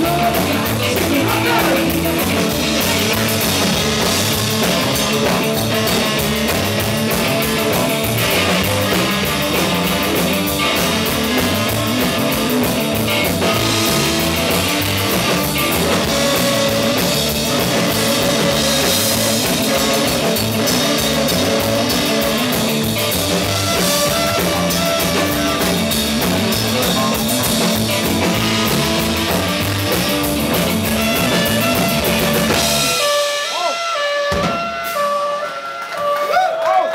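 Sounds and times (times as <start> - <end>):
rock band playing: 0.0 - 36.9.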